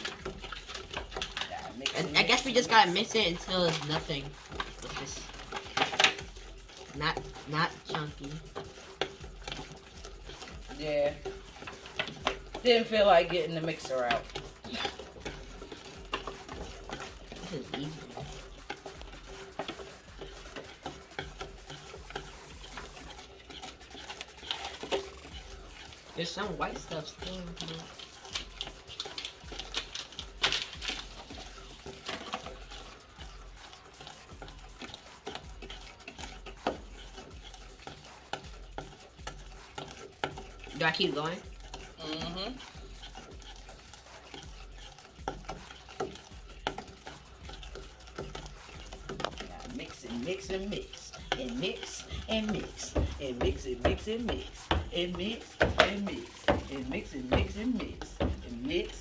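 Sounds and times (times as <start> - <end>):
utensil scraping a bowl: 0.0 - 59.0.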